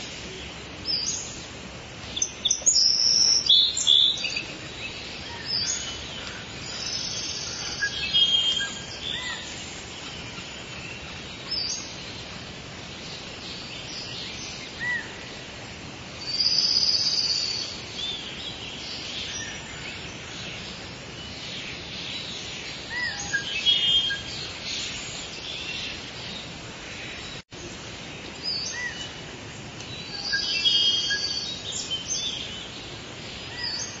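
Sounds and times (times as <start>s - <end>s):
songbirds chirping and singing: 0.0s - 34.0s
steady background hiss: 0.0s - 34.0s.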